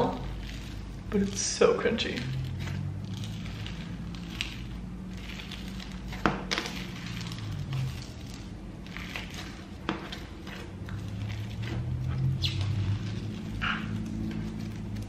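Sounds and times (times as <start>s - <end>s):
slime crunching and crackling: 0.0s - 15.0s.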